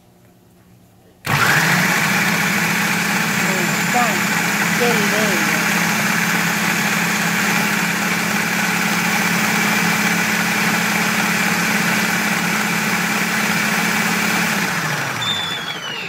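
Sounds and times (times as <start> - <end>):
blender running: 1.3 - 16.0.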